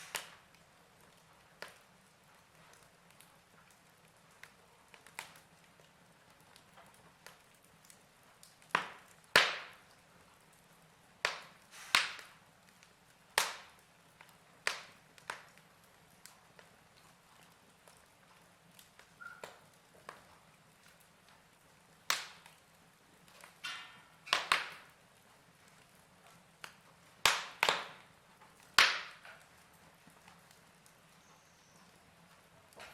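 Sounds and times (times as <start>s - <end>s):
faint steady hiss: 0.0s - 32.9s
fire crackling and popping: 0.0s - 32.9s.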